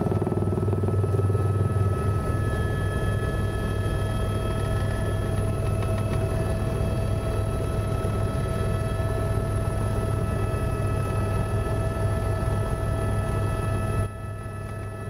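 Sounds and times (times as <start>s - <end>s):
helicopter rotor drone: 0.0s - 15.0s.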